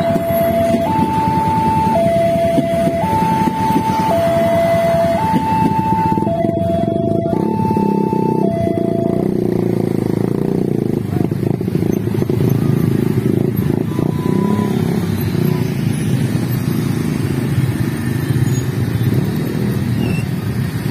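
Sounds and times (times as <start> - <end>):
loud rumble of passing vehicles: 0.0 - 20.9.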